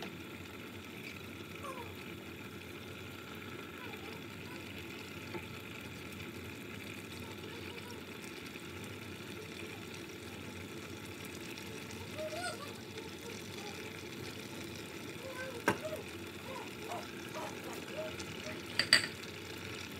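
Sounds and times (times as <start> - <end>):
pot of rice hissing: 0.0 - 19.9.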